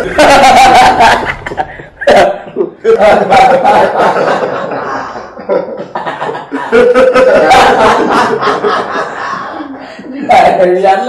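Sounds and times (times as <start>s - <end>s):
man laughing: 0.0s - 9.7s.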